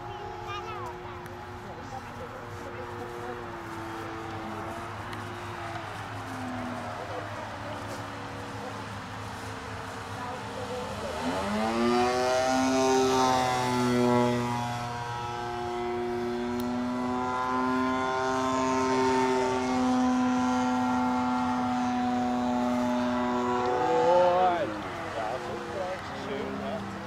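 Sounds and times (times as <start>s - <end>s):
model airplane engine droning: 0.0s - 27.0s.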